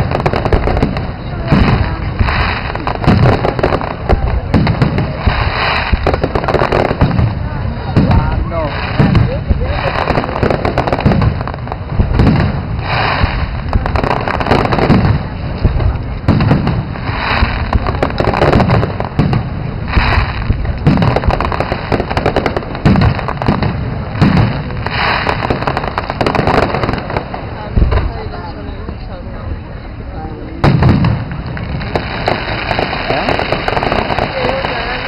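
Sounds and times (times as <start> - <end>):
firework shells booming: 0.0 - 28.4, 30.6 - 35.0
firework crackling: 0.0 - 35.0.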